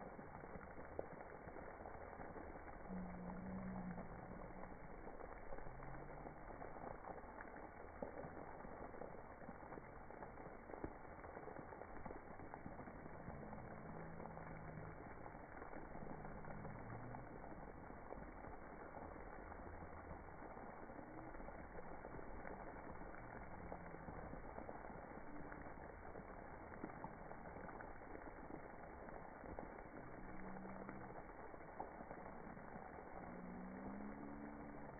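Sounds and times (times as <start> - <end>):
deep drawn-out tones: 1.5 - 7.1, 9.8 - 34.9.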